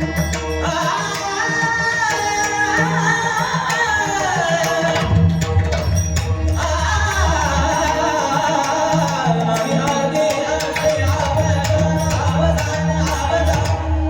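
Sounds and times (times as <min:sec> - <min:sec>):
man singing devotional song: 0:00.0 - 0:05.8, 0:06.5 - 0:14.0.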